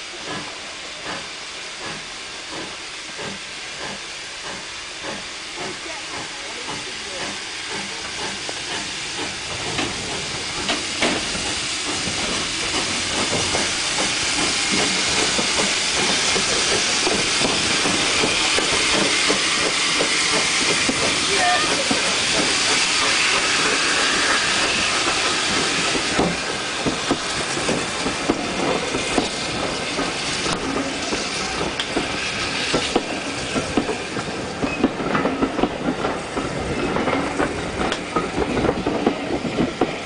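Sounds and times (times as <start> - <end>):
steam hissing: 0.0 - 40.0
steam locomotive chuffing: 0.0 - 40.0.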